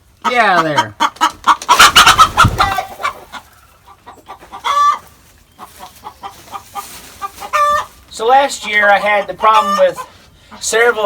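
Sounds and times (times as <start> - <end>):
chickens clucking and squawking: 0.0 - 11.0.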